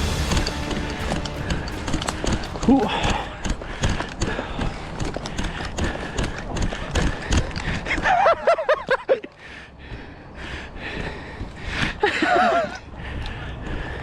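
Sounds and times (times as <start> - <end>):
running footsteps: 0.0 - 14.0.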